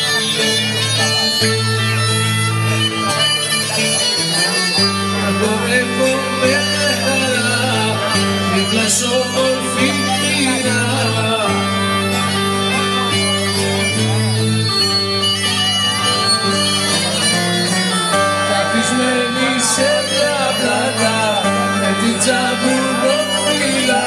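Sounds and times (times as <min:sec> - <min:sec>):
double bass held notes: 0:00.0 - 0:24.0
reedy lead melody: 0:00.0 - 0:24.0.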